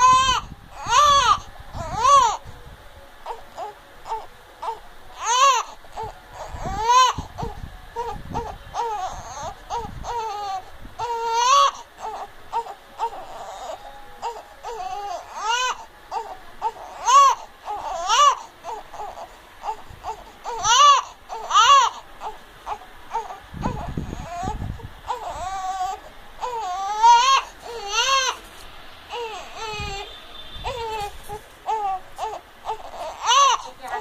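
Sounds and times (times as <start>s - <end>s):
infant crying: 0.0s - 2.4s, 3.2s - 28.4s, 29.1s - 34.0s.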